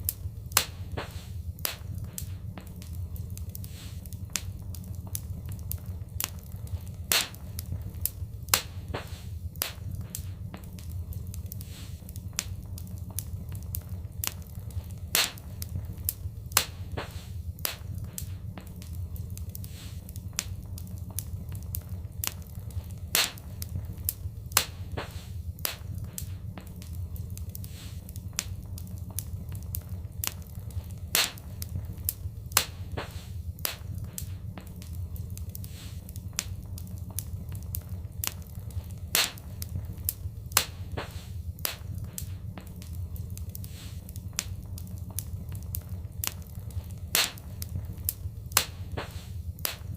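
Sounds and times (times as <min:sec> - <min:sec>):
low rumble: 0:00.0 - 0:49.9
wood fire crackling: 0:00.0 - 0:49.9.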